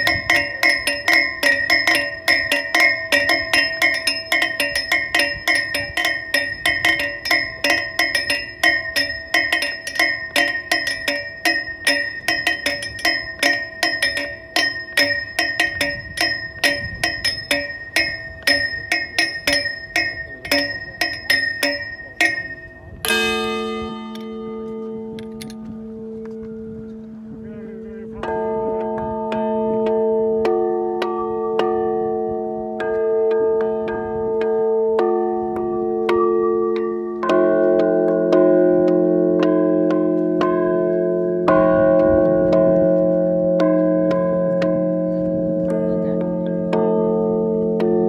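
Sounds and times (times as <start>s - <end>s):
bell struck rapidly with metal rod: 0.0s - 25.6s, 28.2s - 48.0s
bell ringing on with low hum: 0.0s - 48.0s.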